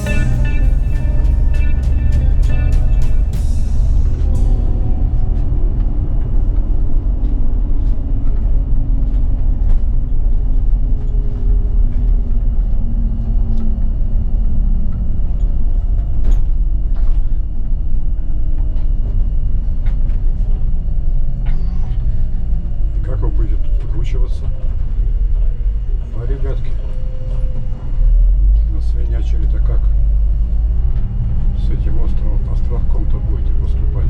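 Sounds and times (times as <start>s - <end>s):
bus engine and road rumble: 0.0s - 34.0s.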